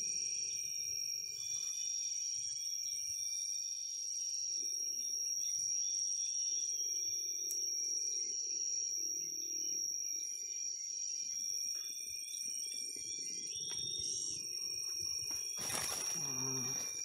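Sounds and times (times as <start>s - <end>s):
insect drone: 0.0s - 17.0s
insect trills: 0.0s - 17.0s.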